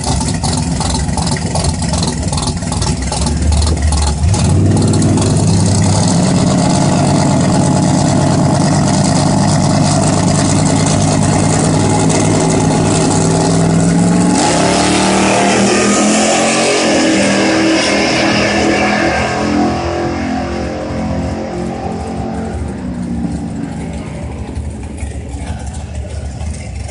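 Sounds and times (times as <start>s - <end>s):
car engines revving: 0.0s - 26.9s.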